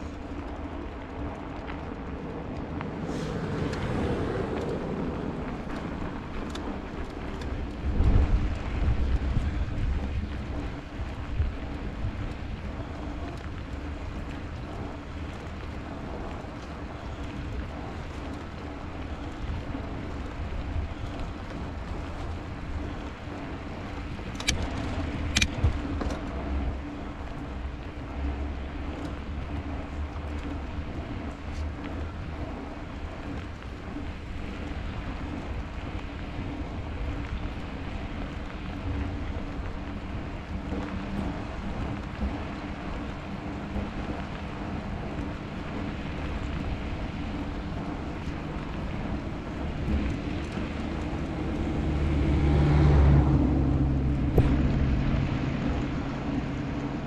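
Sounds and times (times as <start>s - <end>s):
bicycle rolling through snow: 0.0s - 57.0s
wind buffeting microphone: 0.0s - 57.0s.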